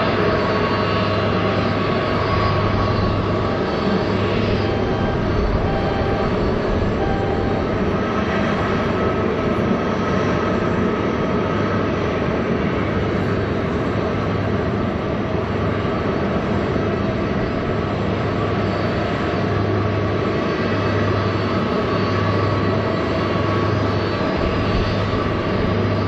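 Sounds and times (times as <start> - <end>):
airplane jet engines rumbling: 0.0 - 26.0.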